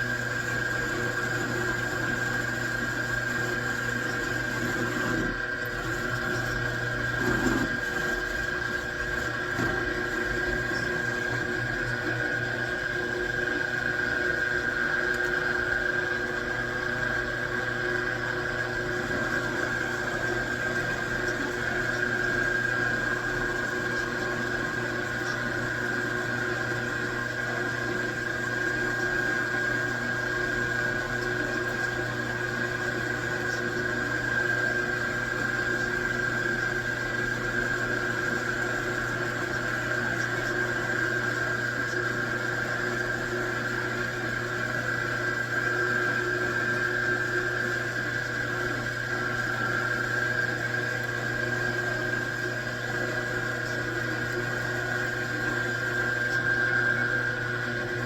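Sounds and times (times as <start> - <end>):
machine tool whining: 0.0 - 58.0.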